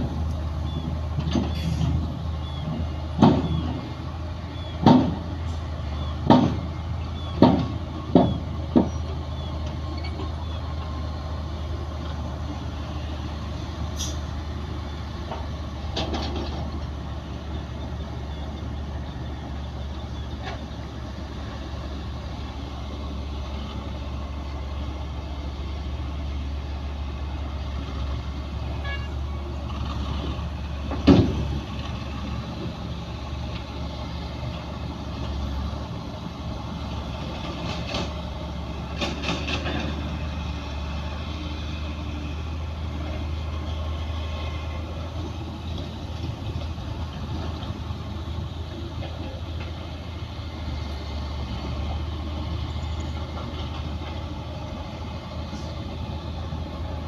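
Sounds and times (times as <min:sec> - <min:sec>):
diesel machinery drone: 0:00.0 - 0:57.0.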